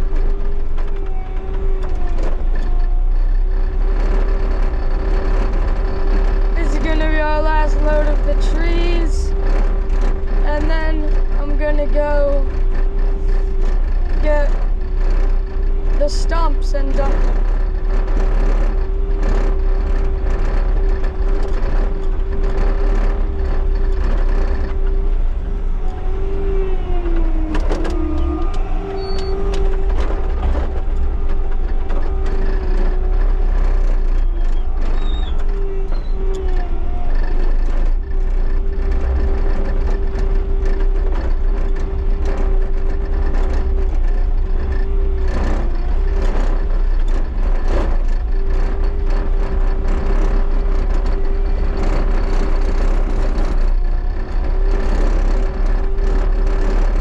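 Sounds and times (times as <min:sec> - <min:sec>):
diesel engine whining and rumbling: 0:00.0 - 0:57.0.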